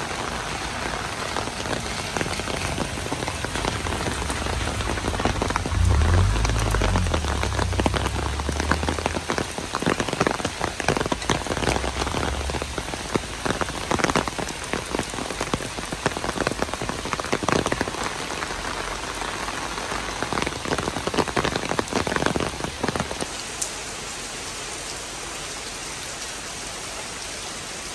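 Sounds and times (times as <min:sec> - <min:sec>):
rain pattering on wet ground: 0:00.0 - 0:27.9.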